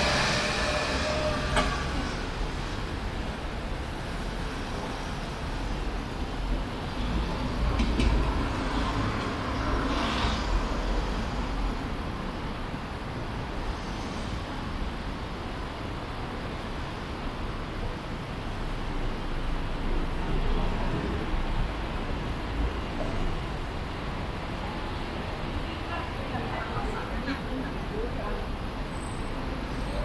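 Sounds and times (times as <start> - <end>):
low rumble of traffic: 0.0 - 30.0.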